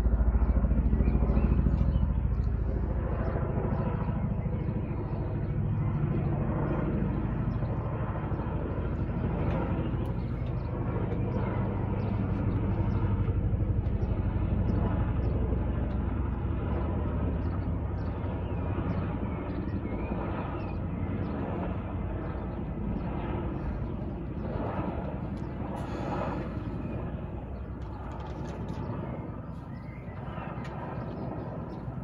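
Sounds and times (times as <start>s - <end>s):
helicopter rotor beat overhead: 0.0s - 32.0s.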